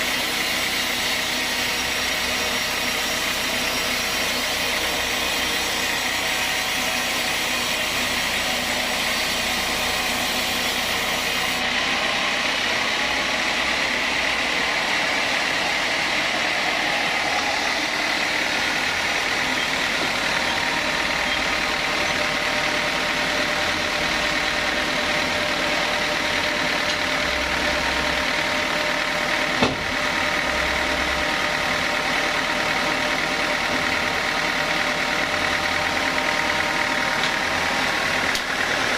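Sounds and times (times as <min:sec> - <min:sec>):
sawmill machinery whining: 0:00.0 - 0:38.9.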